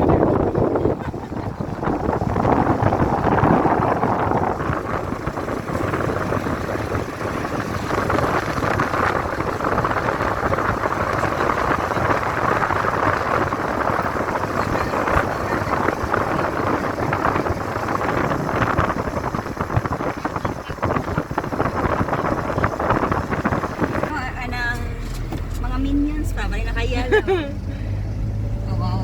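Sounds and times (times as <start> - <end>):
vehicle rumble and hiss inside: 0.0 - 29.0.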